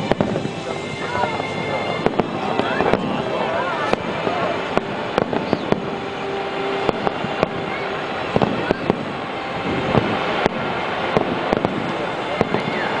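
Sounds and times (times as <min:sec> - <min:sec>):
fireworks bangs and pops: 0:00.0 - 0:13.0
rumble of fireworks bursts: 0:00.0 - 0:13.0.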